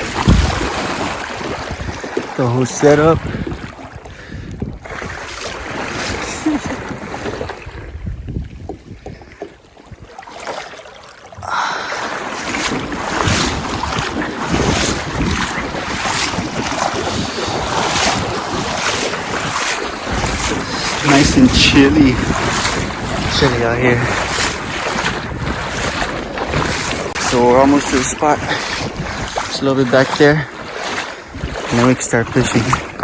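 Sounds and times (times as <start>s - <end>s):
wind buffeting microphone: 0.0s - 10.3s, 11.4s - 33.0s
water rushing past boat: 0.0s - 33.0s.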